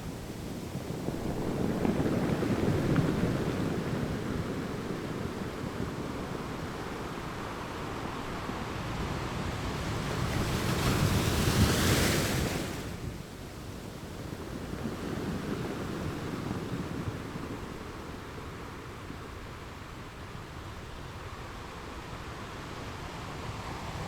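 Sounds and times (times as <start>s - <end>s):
ocean waves on a beach: 0.0s - 24.0s.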